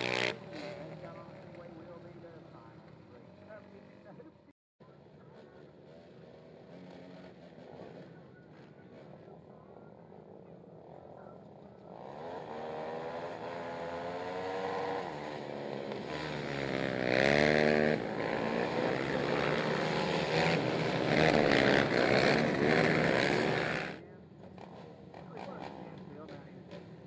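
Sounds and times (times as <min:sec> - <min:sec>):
quad engines revving: 0:00.0 - 0:27.0.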